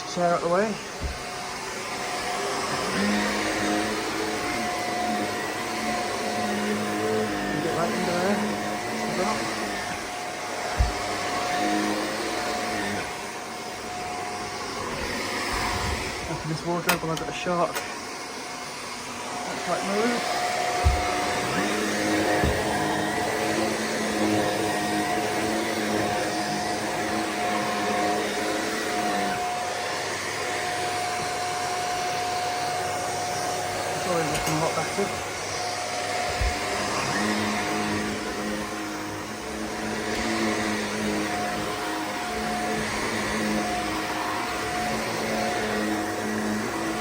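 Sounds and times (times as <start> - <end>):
vacuum cleaner running: 0.0 - 47.0.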